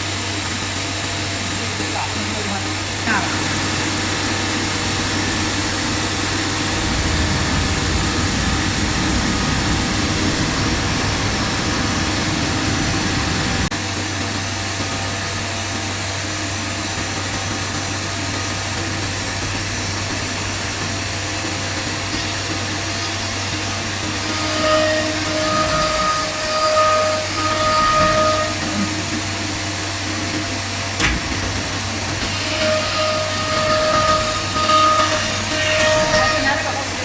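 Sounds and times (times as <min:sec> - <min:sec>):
cnc router whirring: 0:00.0 - 0:37.0.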